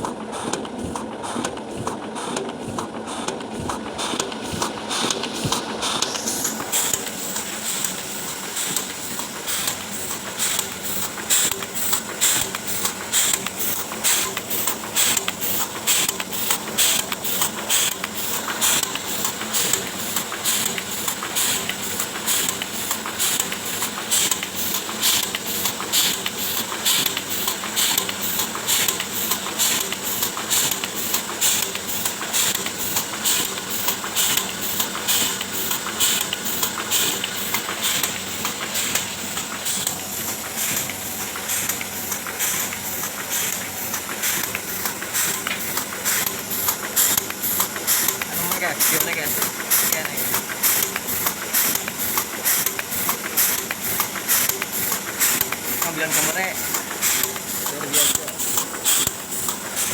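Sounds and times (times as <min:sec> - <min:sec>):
printing press clattering: 0:00.0 - 0:59.9.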